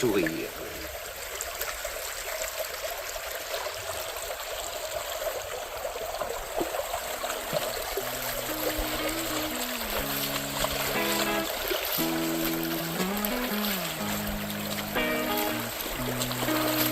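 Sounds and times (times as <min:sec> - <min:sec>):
creek water trickling over stones: 0:00.0 - 0:16.9.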